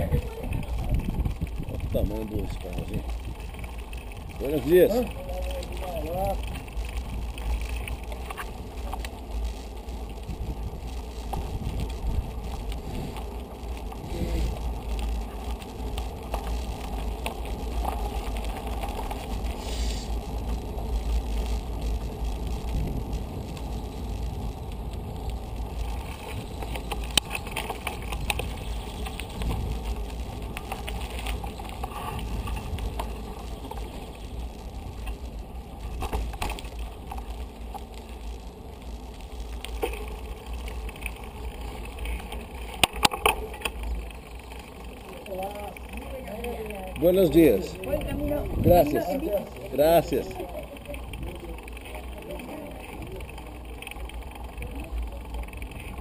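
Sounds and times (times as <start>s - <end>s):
bicycle clicks and rattles: 0.0s - 56.0s
wind and tyre rumble: 0.0s - 56.0s.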